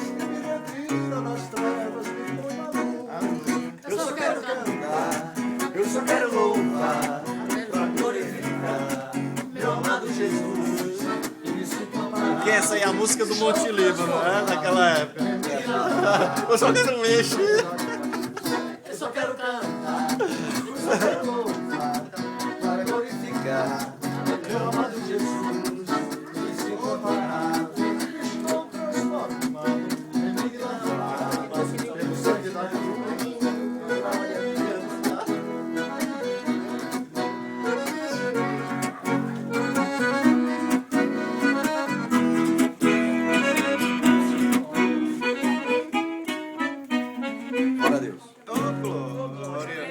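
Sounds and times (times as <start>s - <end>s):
folk guitar strummed and plucked: 0.0s - 49.9s.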